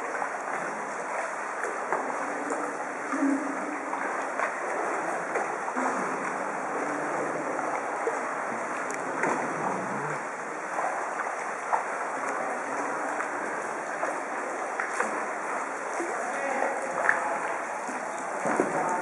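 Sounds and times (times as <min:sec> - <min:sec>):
kayak paddles in water: 0:00.0 - 0:19.0
small splashes and drips: 0:00.0 - 0:19.0.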